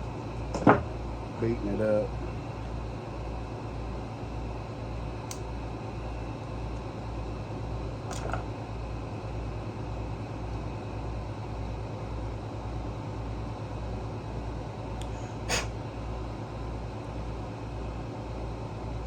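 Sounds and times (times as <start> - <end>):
pulsing mechanical hum: 0.0 - 19.0.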